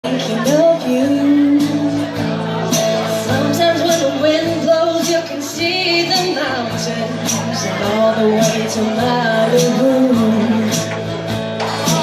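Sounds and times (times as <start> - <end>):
live country band playing: 0.0 - 12.0.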